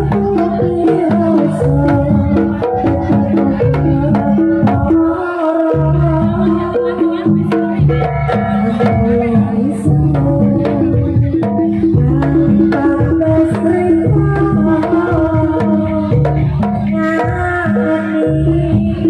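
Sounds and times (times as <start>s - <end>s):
hand drums beating: 0.0s - 19.0s.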